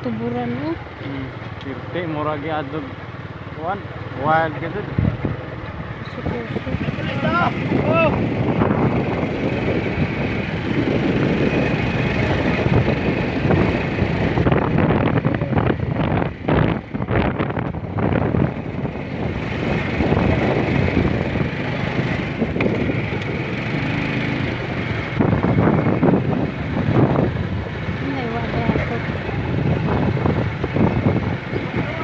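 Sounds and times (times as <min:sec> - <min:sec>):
vehicle engine running: 0:00.0 - 0:32.0
wind buffeting microphone: 0:04.3 - 0:32.0.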